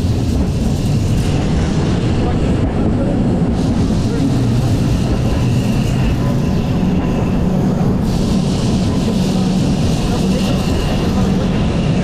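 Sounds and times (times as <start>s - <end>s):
tram rumbling on track: 0.0s - 12.0s.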